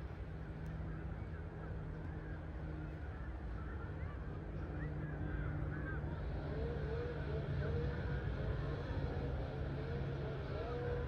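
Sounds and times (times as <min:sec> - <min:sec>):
jet airliner rumble overhead: 0:00.0 - 0:11.0.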